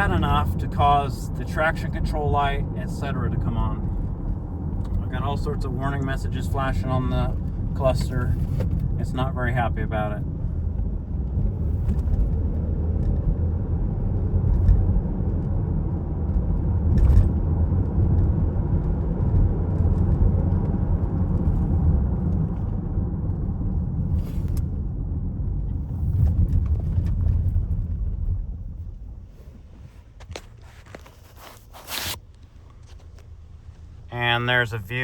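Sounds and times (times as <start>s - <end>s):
engine and road rumble: 0.0s - 35.0s.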